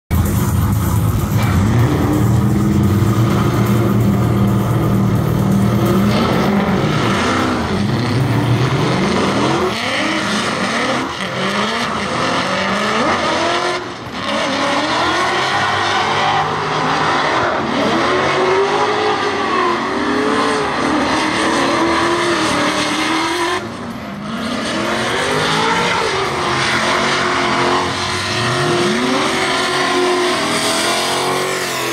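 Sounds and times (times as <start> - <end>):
car engines revving: 0.1 - 31.9.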